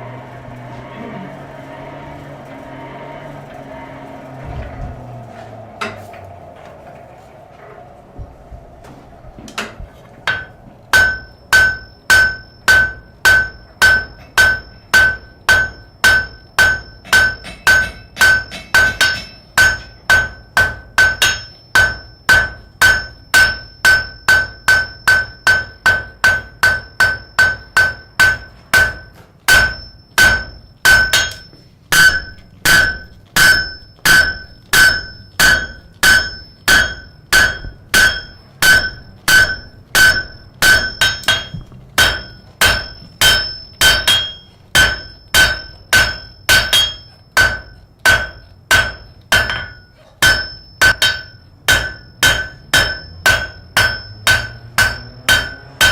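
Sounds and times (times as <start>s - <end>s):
hammer striking an anvil: 5.8s - 6.1s, 9.5s - 55.9s.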